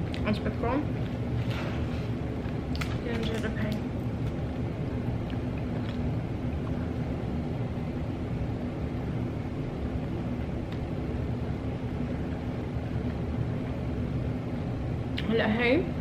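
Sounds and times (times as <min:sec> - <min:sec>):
constant hum: 0:00.0 - 0:16.0
steady low rumble: 0:00.0 - 0:16.0.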